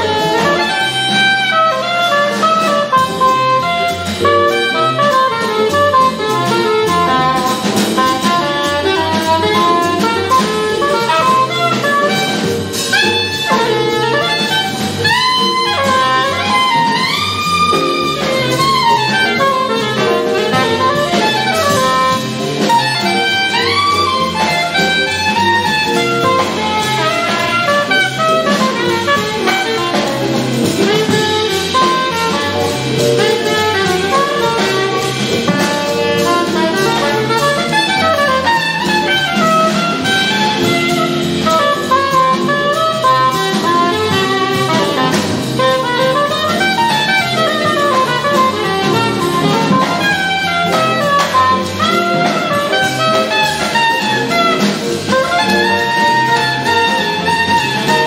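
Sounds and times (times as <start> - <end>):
jazz combo playing: 0.0 - 58.0
soprano saxophone solo: 0.0 - 58.0.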